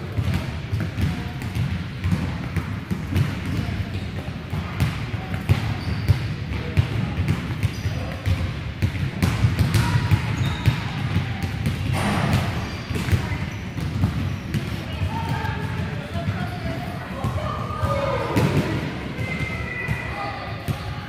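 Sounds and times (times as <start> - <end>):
balls thudding on gym floor: 0.1 - 16.5, 17.2 - 20.9.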